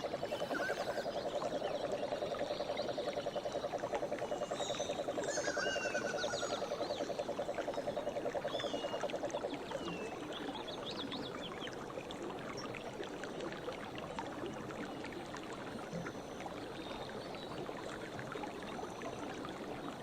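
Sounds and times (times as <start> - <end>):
faint running water: 0.0 - 20.0.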